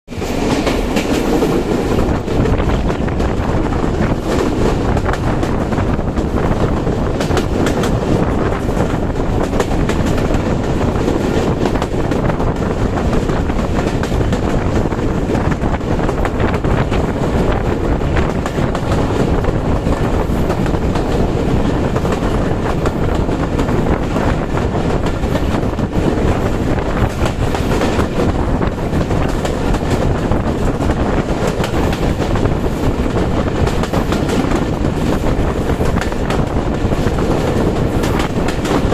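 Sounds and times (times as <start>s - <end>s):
passenger train running: 0.1s - 38.9s.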